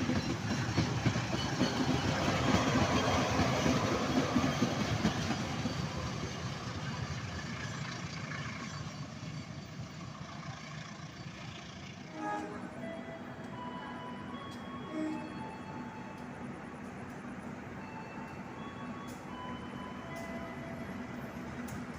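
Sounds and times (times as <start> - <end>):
train rumbling past: 0.0 - 21.9.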